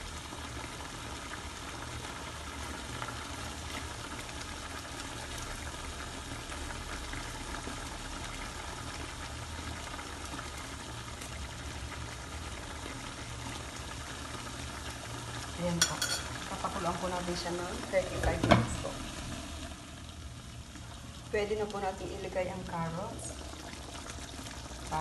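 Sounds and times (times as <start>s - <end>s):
curry bubbling and popping: 0.0s - 25.0s.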